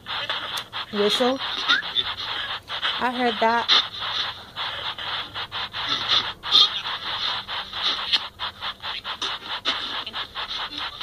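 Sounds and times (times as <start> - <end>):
choppy static fragments: 0.0 - 11.0.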